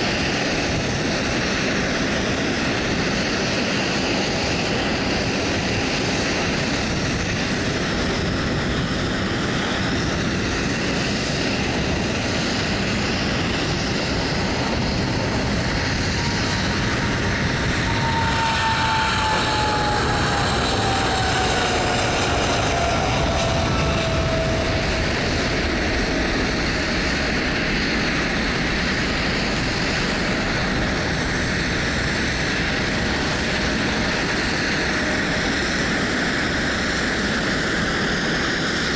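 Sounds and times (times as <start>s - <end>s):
jet engine roar: 0.0s - 38.9s.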